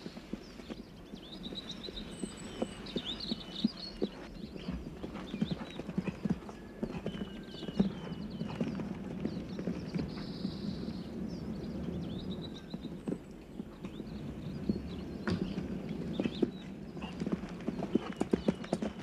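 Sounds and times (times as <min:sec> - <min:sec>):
horse hoofbeats on grass: 0:00.0 - 0:19.0.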